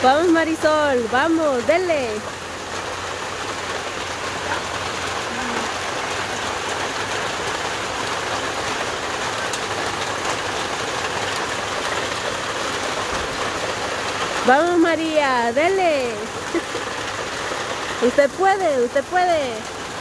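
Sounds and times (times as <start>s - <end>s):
heavy rain on grass: 0.0s - 20.0s.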